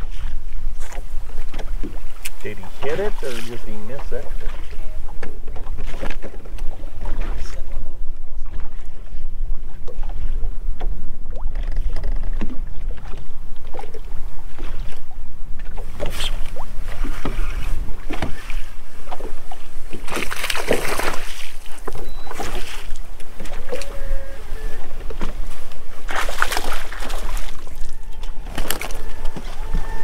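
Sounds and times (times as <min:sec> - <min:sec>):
waves slapping boat hull: 0:00.0 - 0:30.0
wind rumble on microphone: 0:00.0 - 0:30.0.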